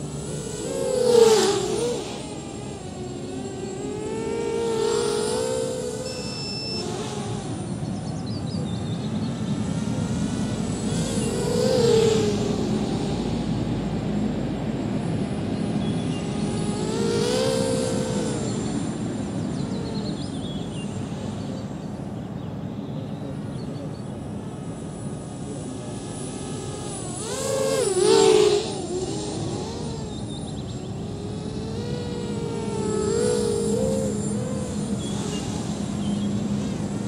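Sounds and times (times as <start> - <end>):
quadcopter motors buzzing: 0.0 - 37.0.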